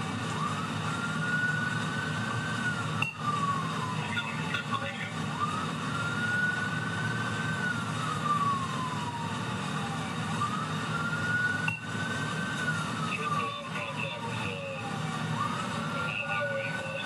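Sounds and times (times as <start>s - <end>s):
police siren wailing: 0.0s - 17.0s
road and engine rumble: 0.0s - 17.0s.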